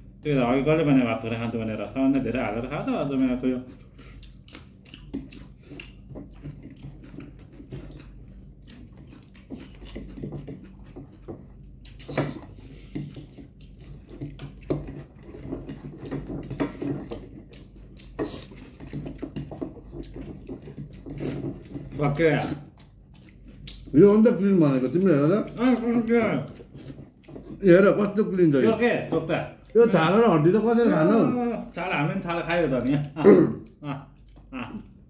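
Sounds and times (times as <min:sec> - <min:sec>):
people chewing noodles: 0:01.6 - 0:35.0.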